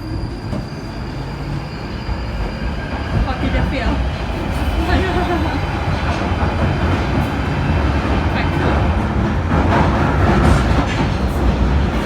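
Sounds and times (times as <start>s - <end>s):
underground train rumbling: 0.0s - 12.0s.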